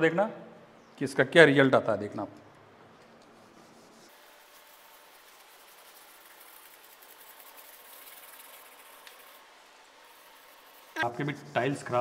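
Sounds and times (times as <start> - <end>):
low hiss: 0.0 - 12.0.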